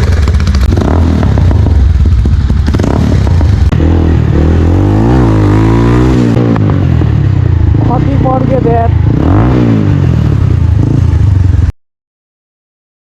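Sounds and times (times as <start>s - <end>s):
motorcycle engine revving: 0.0s - 11.7s.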